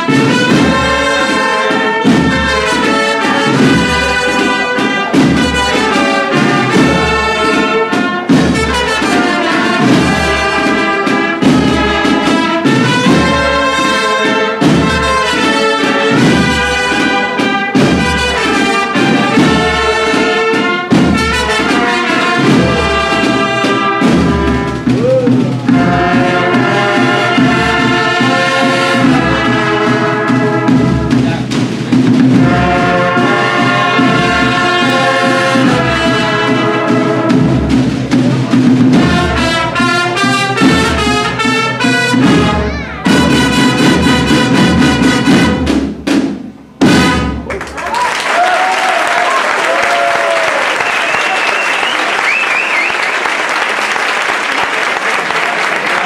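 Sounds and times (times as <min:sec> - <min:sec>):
regular drum beat: 0:00.0 - 0:48.1
brass band playing: 0:00.0 - 0:56.0.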